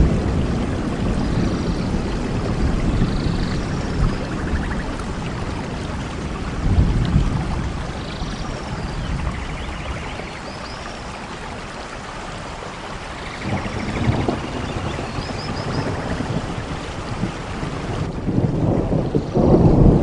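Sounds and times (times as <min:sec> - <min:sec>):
thunder rumbling: 0:00.0 - 0:10.3, 0:13.4 - 0:20.0
steady rain: 0:00.0 - 0:20.0.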